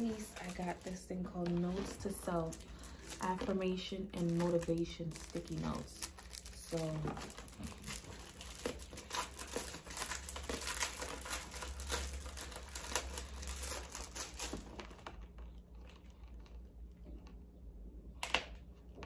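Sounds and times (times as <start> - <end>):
plastic wrapping crinkling: 0.0 - 17.3.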